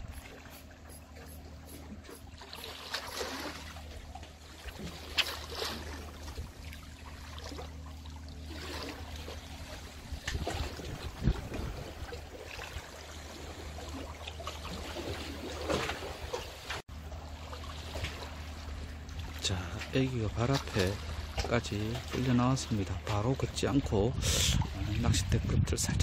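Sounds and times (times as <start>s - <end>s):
small waves lapping: 0.0s - 25.4s
water slapping: 0.0s - 25.4s
steady low hum: 0.0s - 26.0s.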